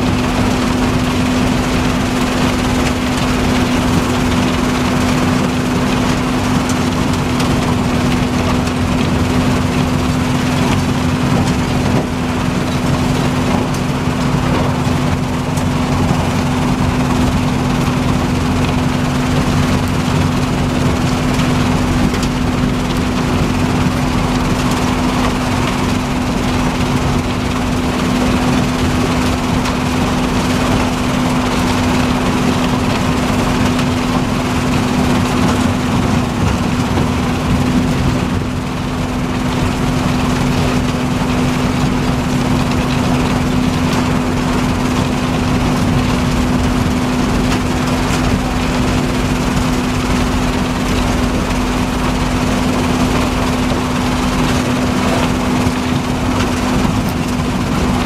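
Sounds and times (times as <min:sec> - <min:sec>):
impact crusher machine drone: 0:00.0 - 0:58.0.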